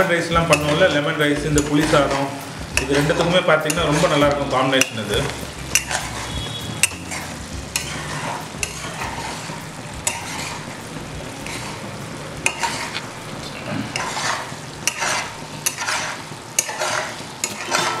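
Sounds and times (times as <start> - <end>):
gravy sizzling: 0.0 - 18.0
spatula scraping pan: 0.0 - 18.0.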